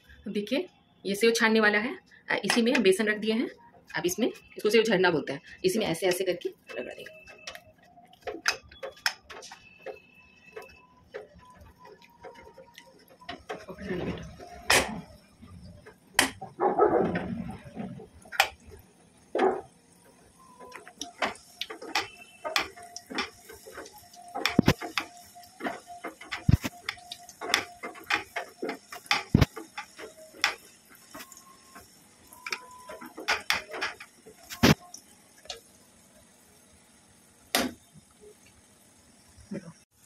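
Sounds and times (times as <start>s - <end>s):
dough frying in hot oil hiss: 0.0s - 40.0s.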